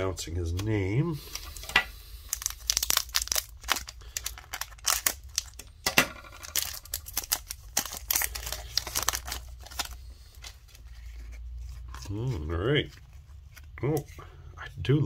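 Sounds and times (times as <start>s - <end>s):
plastic wrapper crinkling and tearing: 0.6s - 14.0s.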